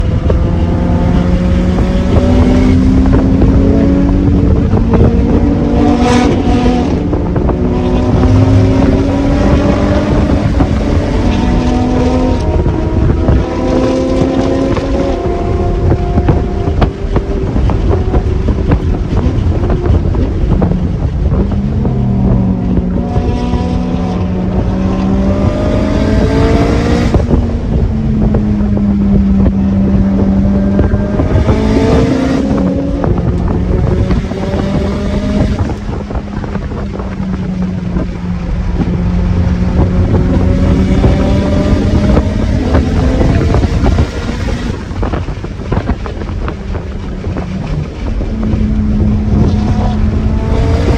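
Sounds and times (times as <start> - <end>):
car engine accelerating: 0.0 - 50.9
wind rumble on microphone: 0.0 - 50.9.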